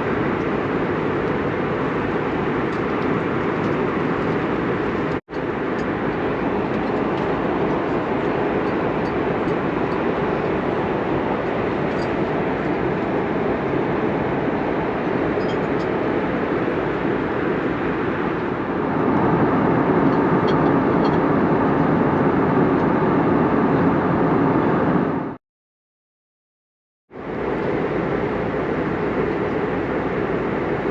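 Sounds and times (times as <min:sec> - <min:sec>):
airliner cabin rumble: 0:00.0 - 0:25.4, 0:27.2 - 0:30.9.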